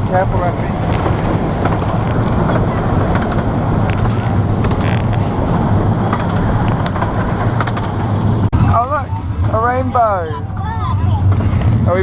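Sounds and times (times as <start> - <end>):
railway carriage rumbling on track: 0.0 - 12.0.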